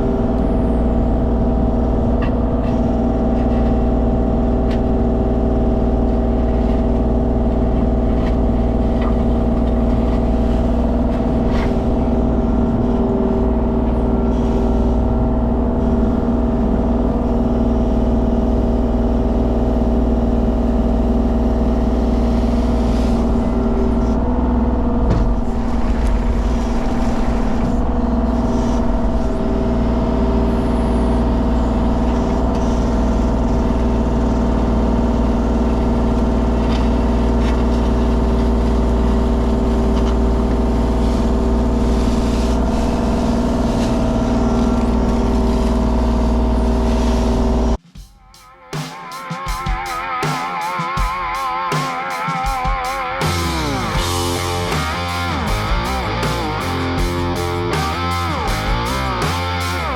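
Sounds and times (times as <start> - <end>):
diesel engine under load: 0.0 - 47.8, 53.3 - 59.9.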